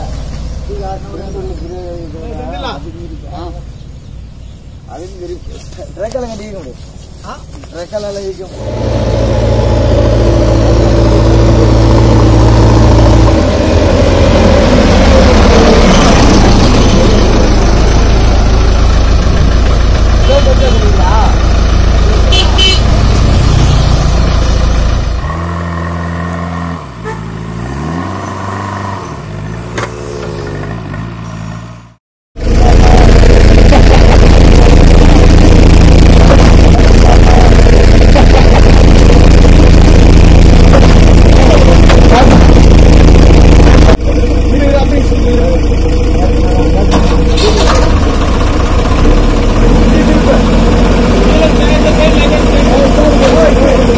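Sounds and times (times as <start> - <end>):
diesel engine running loudly: 8.5 - 53.9.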